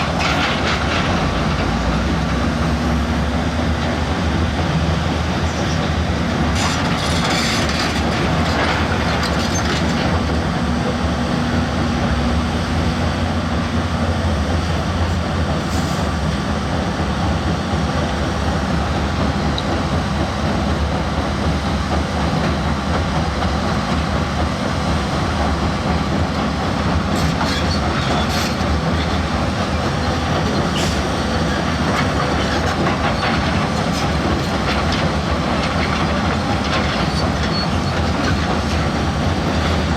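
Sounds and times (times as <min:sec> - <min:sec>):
heavy diesel machine running: 0:00.0 - 0:39.9.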